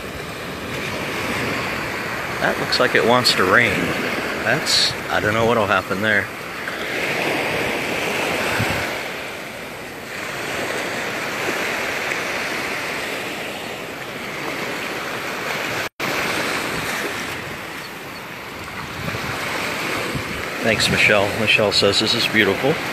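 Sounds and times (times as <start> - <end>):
small waves washing onto beach: 0.0 - 22.9.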